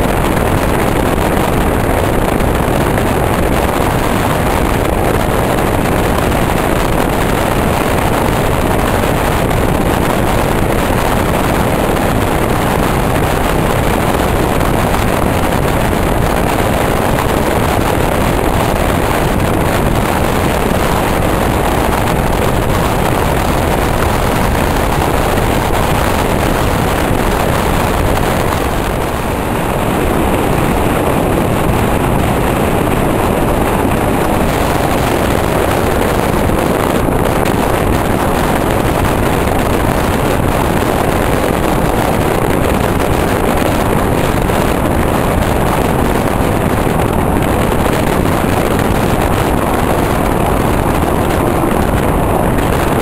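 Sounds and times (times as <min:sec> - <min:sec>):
train rumbling at speed: 0:00.0 - 0:53.0.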